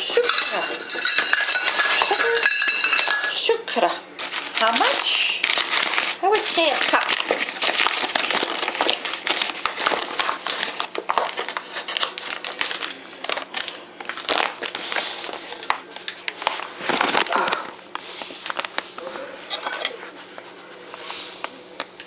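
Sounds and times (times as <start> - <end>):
paper bag crinkling: 4.2 - 21.9.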